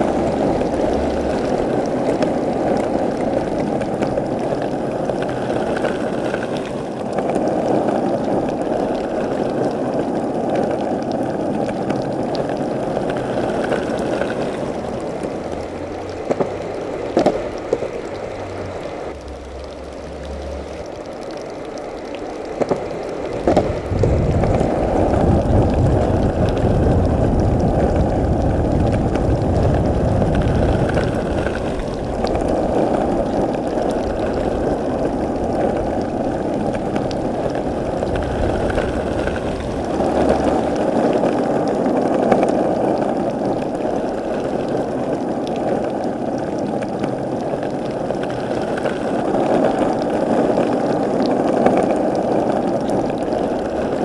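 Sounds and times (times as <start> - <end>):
sharp skateboard clicks: 0.0 - 10.2, 11.4 - 18.3, 21.9 - 27.0, 28.8 - 54.0
skateboard wheels rolling on pavement: 0.0 - 54.0.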